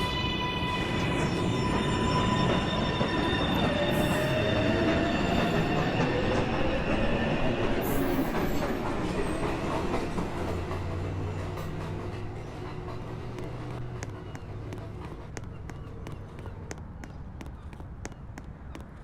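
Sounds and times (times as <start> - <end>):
train wheels squealing: 0.0 - 16.7
train rumble: 0.0 - 19.0.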